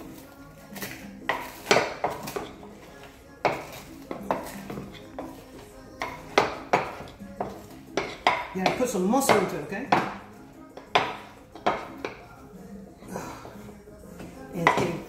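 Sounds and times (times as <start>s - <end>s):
wooden pestle pounding in mortar: 0.8s - 12.3s, 14.2s - 15.0s.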